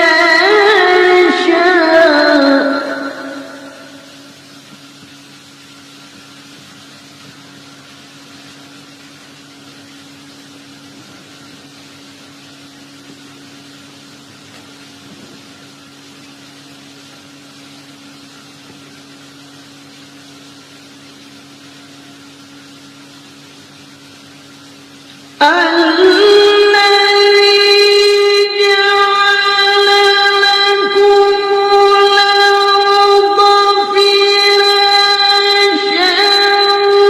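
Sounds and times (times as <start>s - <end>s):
even hiss: 0.0s - 36.9s
steady hum: 0.0s - 37.0s.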